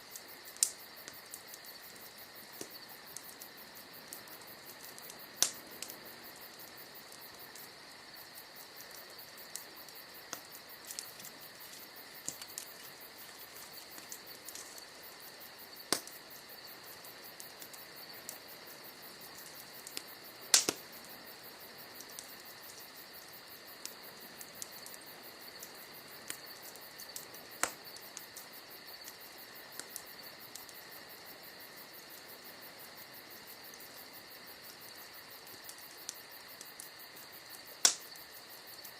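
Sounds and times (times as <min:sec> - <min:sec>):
insects chirring: 0:00.0 - 0:38.9
wood fire crackling: 0:00.0 - 0:38.9.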